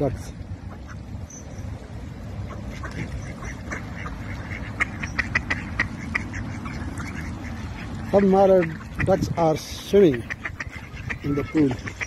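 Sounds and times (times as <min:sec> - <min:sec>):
ducks quacking softly: 0:00.6 - 0:01.1, 0:02.4 - 0:12.0.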